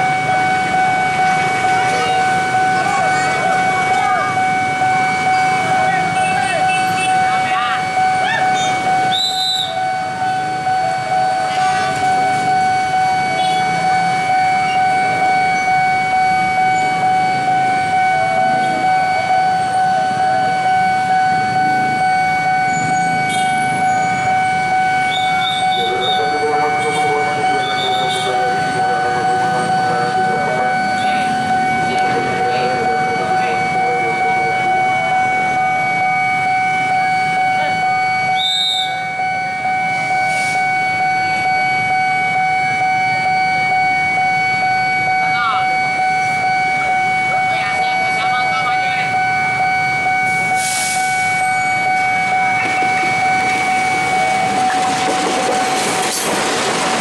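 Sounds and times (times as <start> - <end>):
diesel locomotive rumble: 0.0 - 38.4, 45.5 - 57.0
level crossing warning bell: 0.0 - 57.0.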